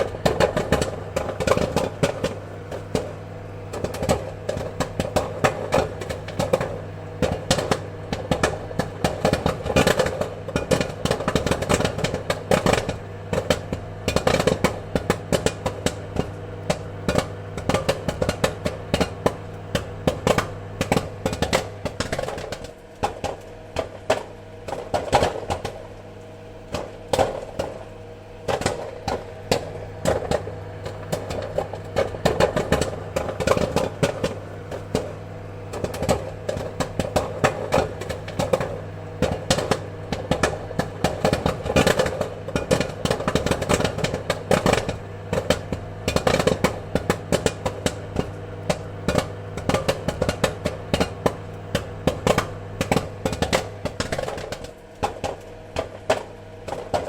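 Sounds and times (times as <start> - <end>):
popcorn kernels popping: 0.0 - 57.0
steady low hum: 0.0 - 57.0.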